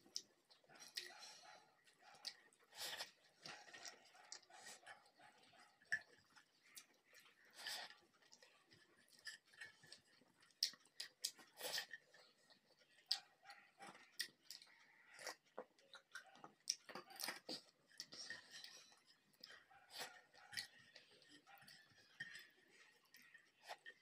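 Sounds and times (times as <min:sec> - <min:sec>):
mouth chewing with wet smacks: 0:00.0 - 0:24.0.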